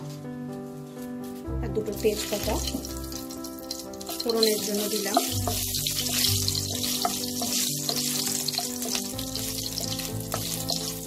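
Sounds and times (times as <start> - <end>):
background music: 0.0 - 11.0
chillies sizzling in oil: 1.7 - 11.0
wooden spatula stirring in pan: 2.1 - 11.0.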